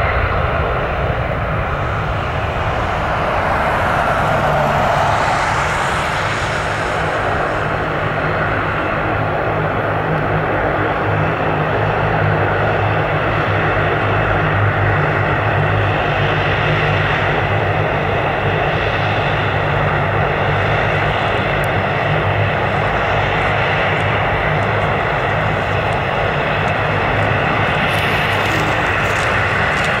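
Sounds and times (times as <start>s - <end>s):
jet airliner taking off: 0.0s - 30.0s.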